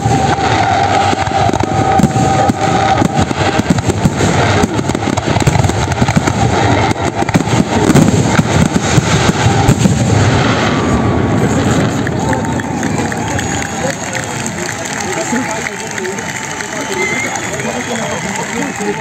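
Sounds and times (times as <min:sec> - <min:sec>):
fireworks bursting in a barrage: 0:00.0 - 0:19.0.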